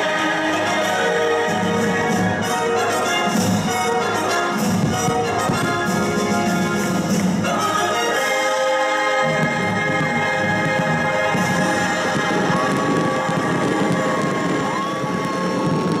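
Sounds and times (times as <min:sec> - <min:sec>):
orchestral music with brass: 0:00.0 - 0:16.0.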